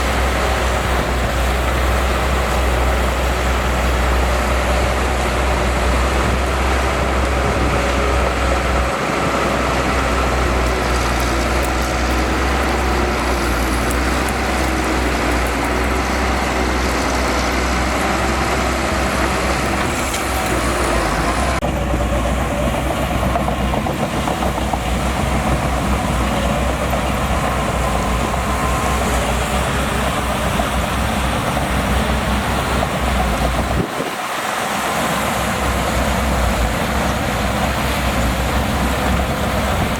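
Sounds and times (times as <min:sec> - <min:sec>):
bulldozer diesel engine rumbling: 0:00.0 - 0:39.9.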